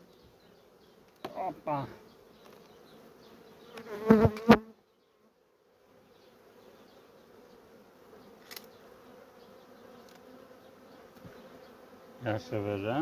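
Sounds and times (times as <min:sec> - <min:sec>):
bee buzzing past microphone: 0:00.0 - 0:13.0
honey bees humming: 0:00.0 - 0:13.0.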